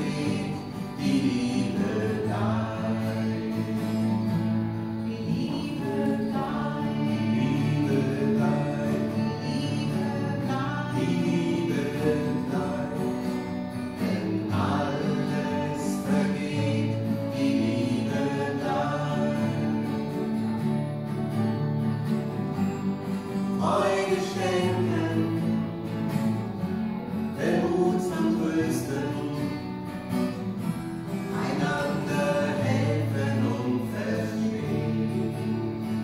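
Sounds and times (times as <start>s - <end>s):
gospel singing: 0.0s - 21.1s, 23.0s - 36.0s
acoustic guitar: 0.0s - 36.0s.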